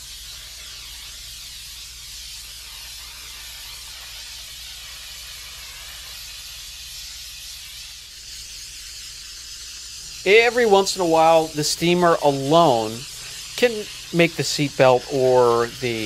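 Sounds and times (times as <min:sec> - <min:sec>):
steam cleaner nozzle hissing: 0:00.0 - 0:16.0.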